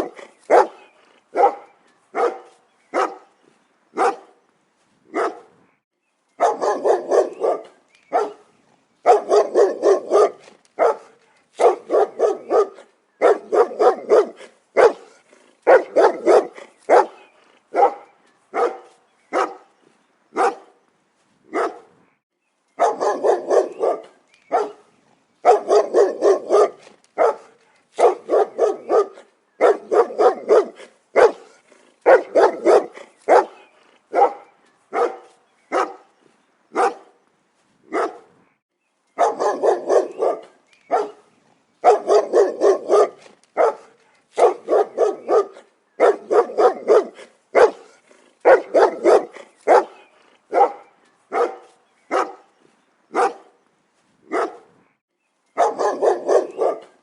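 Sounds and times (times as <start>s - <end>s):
dog barking: 0.0s - 3.3s, 4.0s - 4.4s, 5.1s - 5.5s, 6.4s - 19.7s, 20.3s - 20.7s, 21.5s - 21.9s, 22.8s - 36.1s, 36.7s - 37.2s, 37.9s - 38.3s, 39.2s - 52.5s, 53.1s - 53.6s, 54.3s - 54.7s, 55.6s - 57.0s.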